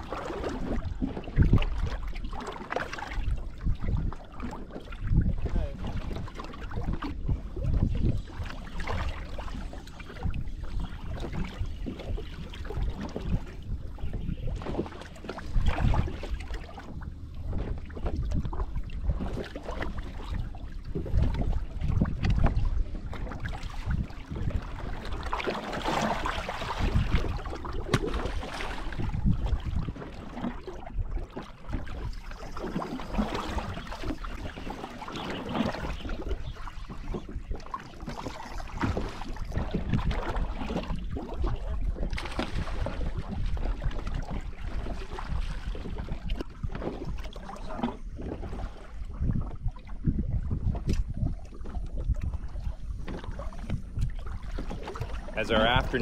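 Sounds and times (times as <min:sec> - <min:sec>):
wind buffeting microphone: 0:00.0 - 0:02.4, 0:03.0 - 0:56.0
water slapping against boat hull: 0:00.0 - 0:56.0.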